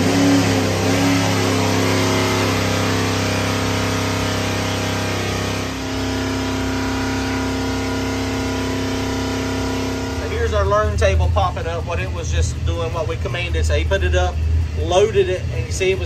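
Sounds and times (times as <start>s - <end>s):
engine running at high revs: 0.0s - 16.0s.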